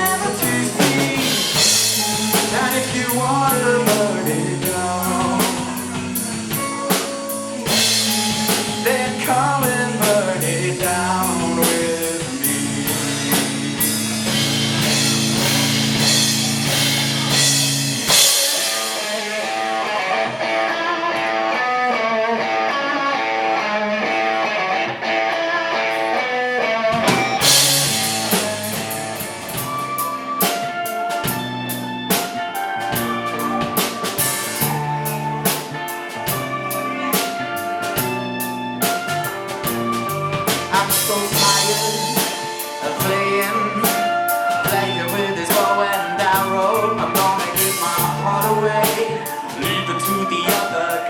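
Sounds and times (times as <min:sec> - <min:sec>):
drum kit: 0:00.0 - 0:51.0
electric guitar lines: 0:00.0 - 0:51.0.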